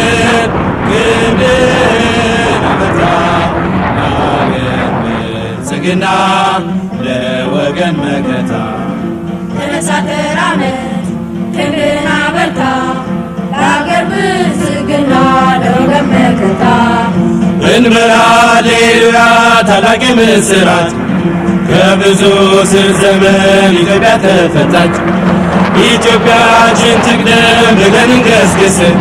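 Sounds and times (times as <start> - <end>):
chant-like singing voices: 0.0 - 29.0
low drone: 0.0 - 29.0.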